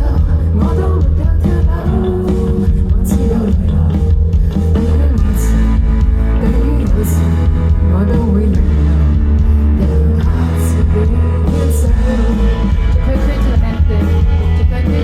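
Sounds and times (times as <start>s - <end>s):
booming bass line: 0.0s - 15.0s
rock band playing live: 0.0s - 15.0s.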